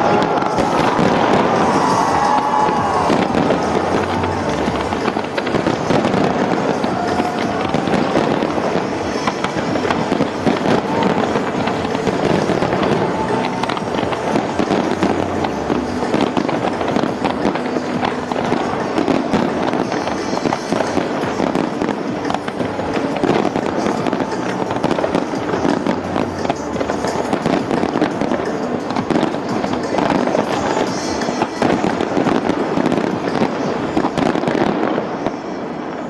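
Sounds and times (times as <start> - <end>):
fireworks bangs and crackles: 0.0 - 36.0
music playing: 0.0 - 36.0.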